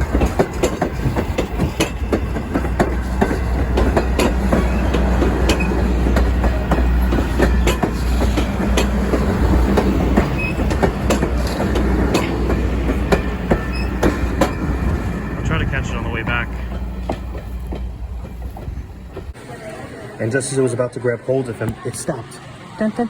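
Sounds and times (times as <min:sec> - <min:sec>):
train wheels clicking on rails: 0:00.0 - 0:19.4
train rumble: 0:00.0 - 0:19.5.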